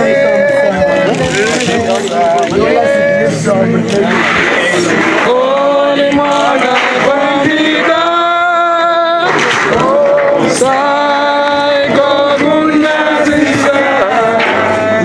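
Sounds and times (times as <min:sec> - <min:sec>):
person singing long gliding notes: 0:00.0 - 0:15.0.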